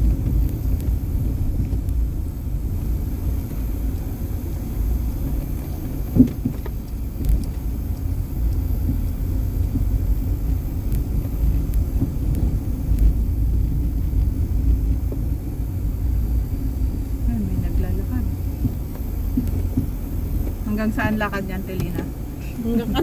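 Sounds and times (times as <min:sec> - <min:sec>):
car cabin rumble on rough road: 0:00.0 - 0:23.0.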